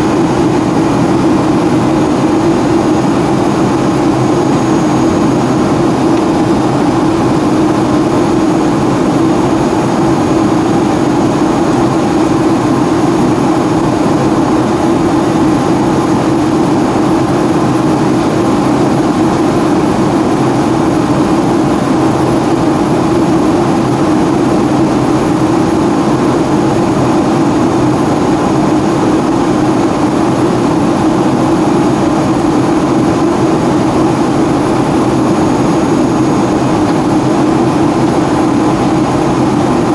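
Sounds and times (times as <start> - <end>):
faint high steady whine: 0.0 - 39.9
jet engines and rushing air: 0.0 - 39.9.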